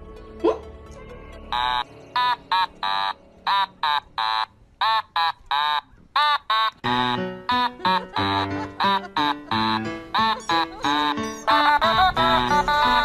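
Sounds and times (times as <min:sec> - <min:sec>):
music: 0:00.0 - 0:04.9, 0:06.8 - 0:13.0.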